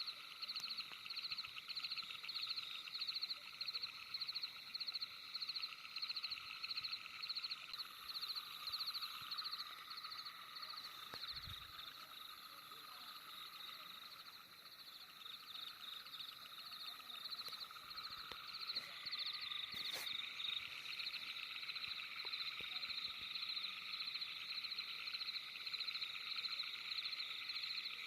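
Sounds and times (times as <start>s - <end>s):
frogs or insects calling: 0.0s - 28.0s.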